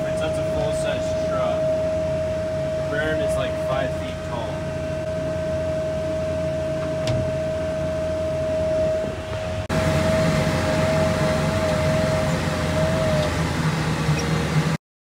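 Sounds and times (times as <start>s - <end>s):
low engine drone: 0.0s - 14.8s
snowblower whine: 0.0s - 14.8s.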